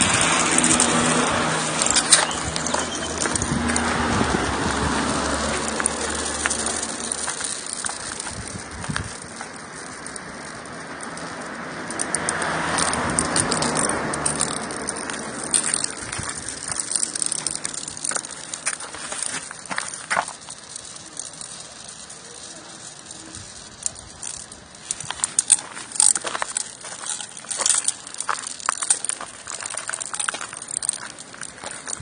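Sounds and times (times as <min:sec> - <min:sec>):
marbles clicking together: 0:00.0 - 0:32.0
marbles rolling on track: 0:00.0 - 0:32.0.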